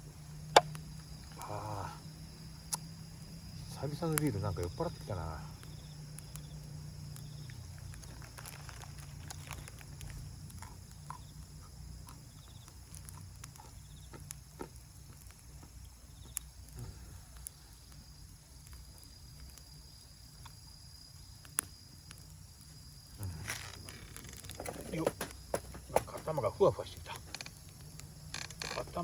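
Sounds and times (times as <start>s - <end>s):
campfire crackling and popping: 0.0s - 29.0s
insects droning: 0.0s - 29.0s.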